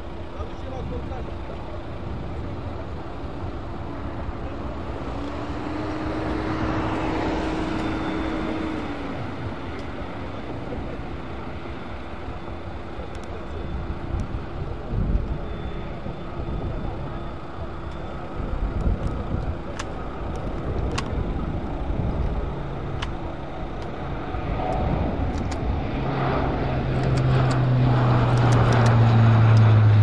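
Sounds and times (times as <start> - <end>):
turboprop aircraft propeller drone: 0.0 - 30.0.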